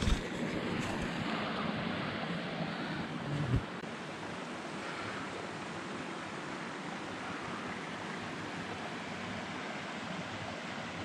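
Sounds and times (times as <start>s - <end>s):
waterfall and river rapids rushing: 0.0s - 11.0s.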